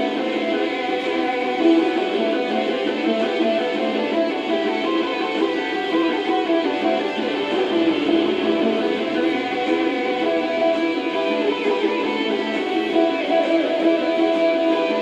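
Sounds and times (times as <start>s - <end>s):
electric guitars: 0.0s - 15.0s
heavy metal instrumental track: 0.0s - 15.0s.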